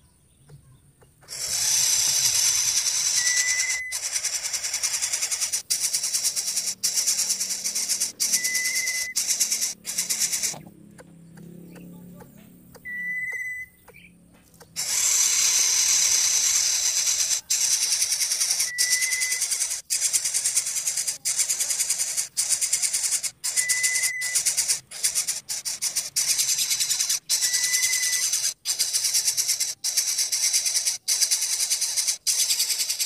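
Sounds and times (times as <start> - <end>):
cicadas buzzing: 1.2 - 33.0.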